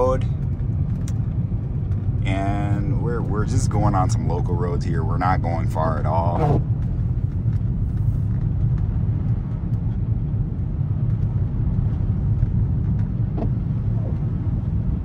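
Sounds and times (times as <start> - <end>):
car driving on snowy road: 0.0 - 15.0.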